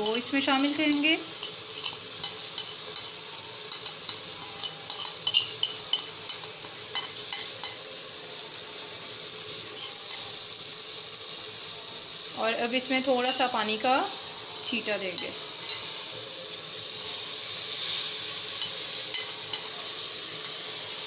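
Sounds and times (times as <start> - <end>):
spoon scraping a pan: 0.0 - 11.3, 12.9 - 21.0
chilies sizzling in hot oil: 0.0 - 21.0.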